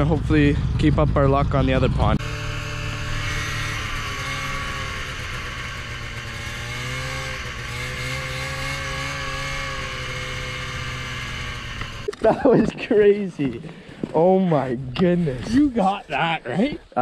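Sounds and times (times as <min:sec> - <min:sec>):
snowmobile engine running: 0:00.0 - 0:16.8
track noise: 0:00.0 - 0:17.0.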